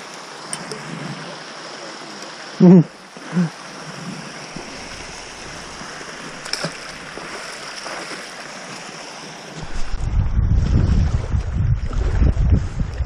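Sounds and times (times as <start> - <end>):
water lapping at shore: 0.0 - 13.0
wind: 0.0 - 13.0.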